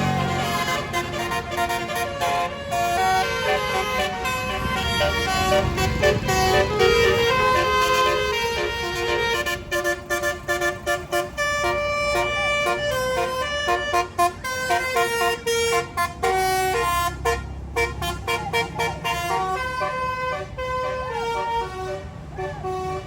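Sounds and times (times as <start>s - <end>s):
bus musical air horn: 0.0s - 23.0s
low engine rumble: 0.0s - 23.0s.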